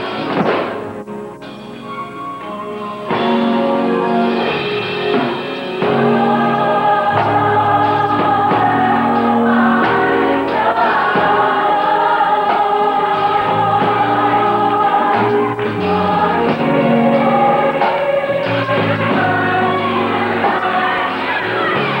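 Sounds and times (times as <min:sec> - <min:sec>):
gospel choir singing: 0:02.4 - 0:22.0.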